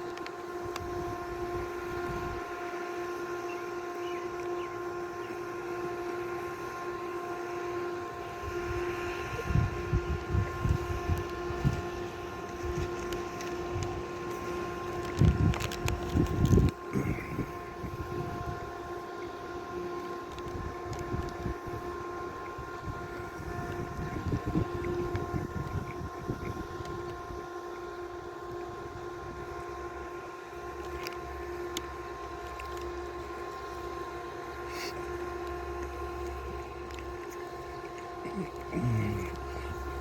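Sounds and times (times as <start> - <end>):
close-up crunching and handling: 0.0 - 2.6, 8.2 - 40.0
steady mechanical hum: 0.0 - 40.0.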